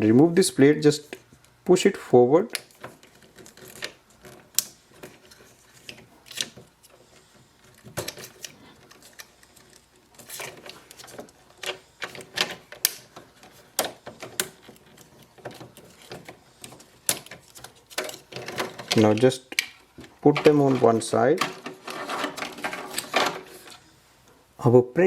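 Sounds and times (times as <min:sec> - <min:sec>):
plastic parts clicking and rattling: 0:02.5 - 0:23.8.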